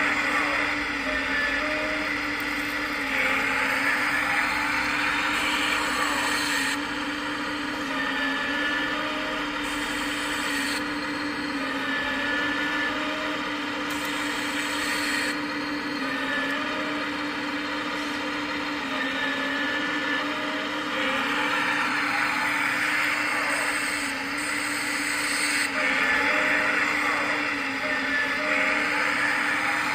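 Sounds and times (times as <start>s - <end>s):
hydraulic pump whining: 0.0s - 29.9s.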